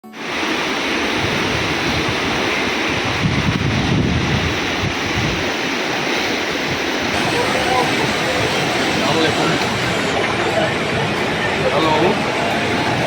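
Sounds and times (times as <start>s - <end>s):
river water rushing: 0.0s - 13.0s
wind buffeting microphone: 0.9s - 13.0s.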